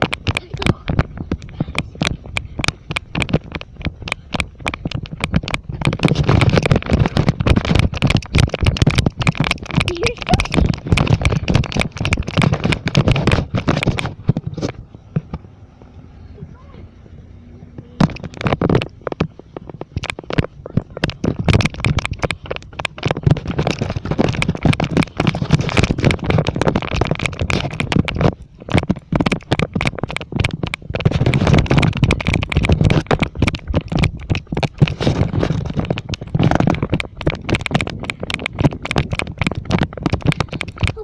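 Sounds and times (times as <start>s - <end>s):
crackling handling noise: 0.0s - 16.0s, 17.0s - 41.0s
wind buffeting microphone: 0.0s - 41.0s.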